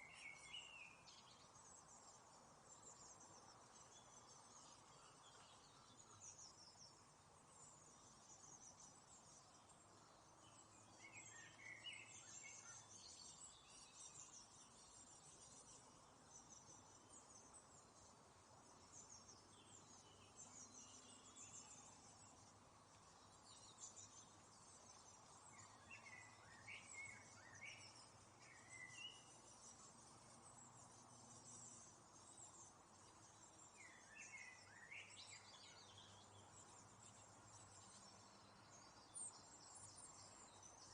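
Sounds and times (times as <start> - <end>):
light steady hiss: 0.0 - 40.9
small birds chirping: 0.0 - 40.9.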